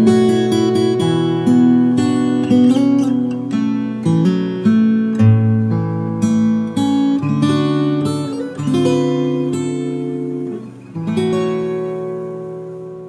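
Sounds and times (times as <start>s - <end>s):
acoustic guitar plucked chords: 0.0s - 13.0s.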